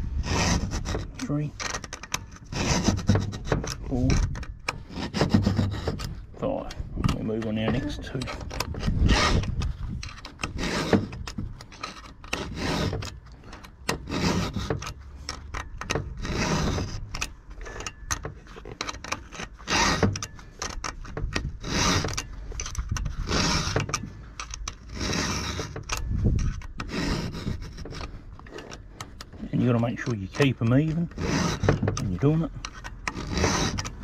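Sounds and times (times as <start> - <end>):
file rasping on chainsaw chain: 0.2 - 34.0.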